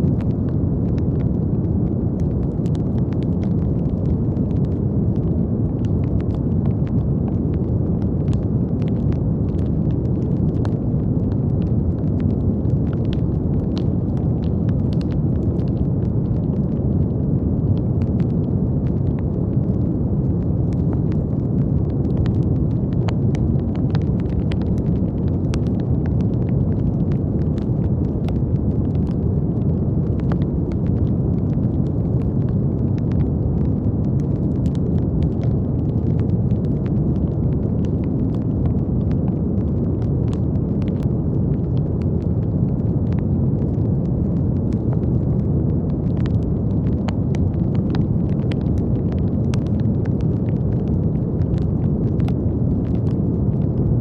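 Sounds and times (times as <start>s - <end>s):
brown noise: 0.0s - 54.0s
faint crackle-like clicks: 0.0s - 54.0s.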